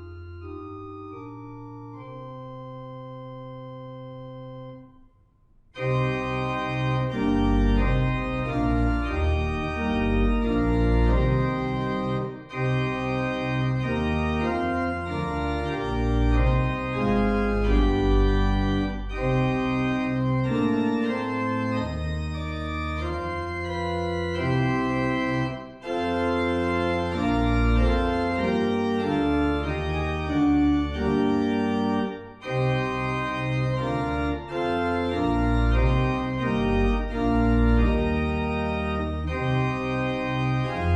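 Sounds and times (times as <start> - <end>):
organ playing a hymn: 0.0 - 5.1, 5.7 - 40.9.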